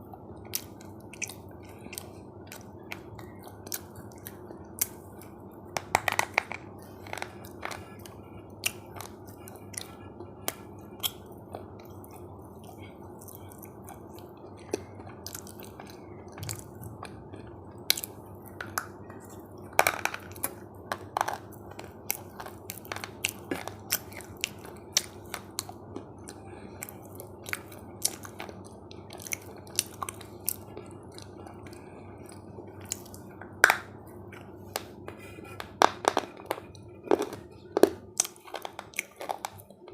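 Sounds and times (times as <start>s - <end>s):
crunchy chewing: 0.4s - 5.4s, 6.8s - 39.9s.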